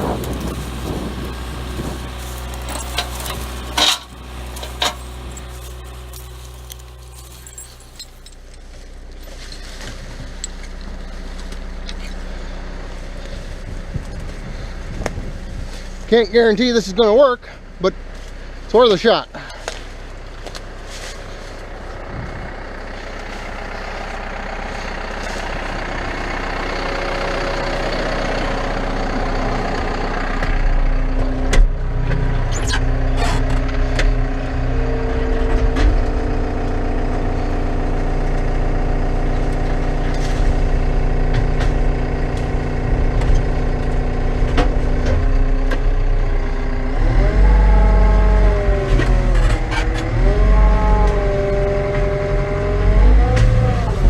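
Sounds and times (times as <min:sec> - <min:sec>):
diesel engine running hard: 0:00.0 - 0:54.0.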